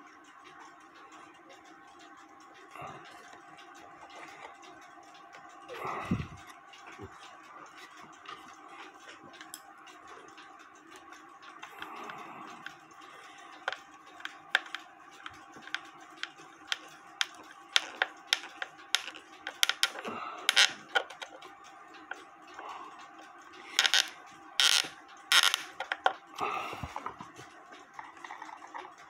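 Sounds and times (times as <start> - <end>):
small clicks and taps: 2.5 - 29.0.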